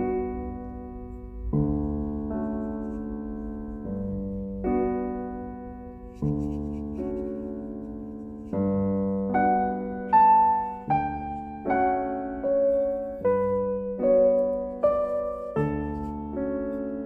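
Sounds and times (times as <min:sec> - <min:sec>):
slow soft piano: 0:00.0 - 0:17.0.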